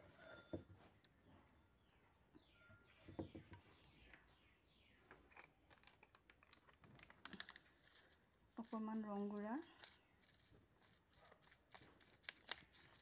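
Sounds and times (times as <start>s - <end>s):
faint high bird chirps: 1.2s - 13.0s.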